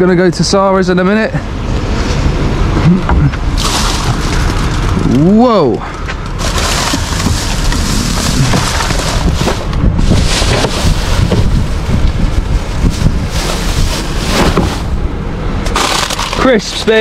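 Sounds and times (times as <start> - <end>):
wind buffeting microphone: 1.4 - 15.8.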